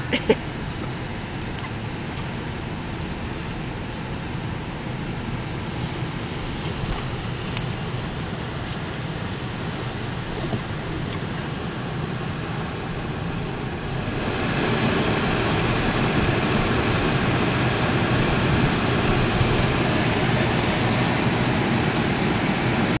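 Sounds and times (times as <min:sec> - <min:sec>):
car engine: 0:00.0 - 0:23.0
tyre and road noise: 0:00.0 - 0:23.0.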